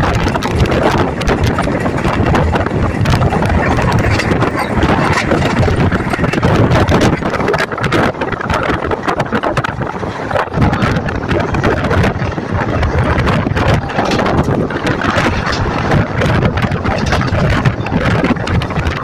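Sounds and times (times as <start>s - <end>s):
train wheels rumbling on track: 0.0s - 19.0s
wind buffeting microphone: 0.0s - 19.0s.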